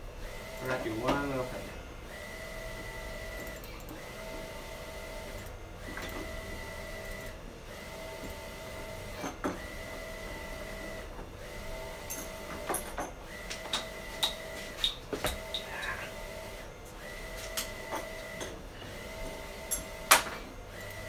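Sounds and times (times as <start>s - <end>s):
printer whine: 0.0s - 21.0s.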